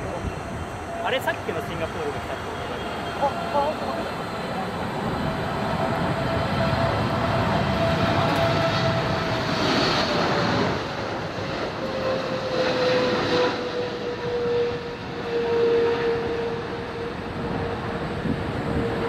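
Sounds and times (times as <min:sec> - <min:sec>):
jet engine rushing noise: 0:00.0 - 0:19.0
jet whine falling in pitch: 0:00.1 - 0:19.0.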